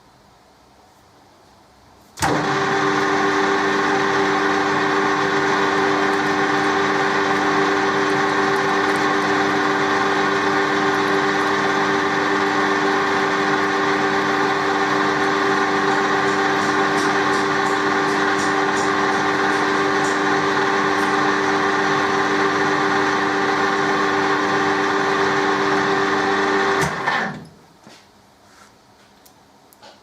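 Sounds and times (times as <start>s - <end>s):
metal lathe running with gear whine: 2.2s - 27.3s.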